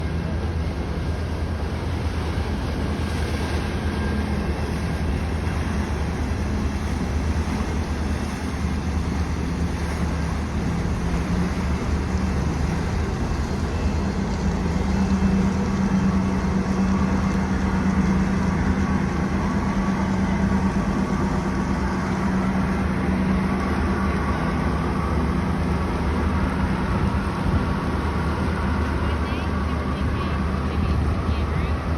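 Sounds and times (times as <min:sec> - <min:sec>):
boat engine droning: 0:00.0 - 0:31.9.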